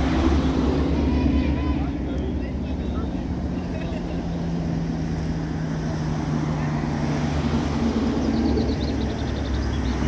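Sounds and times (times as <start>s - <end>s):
vehicle engines droning: 0.0s - 10.0s.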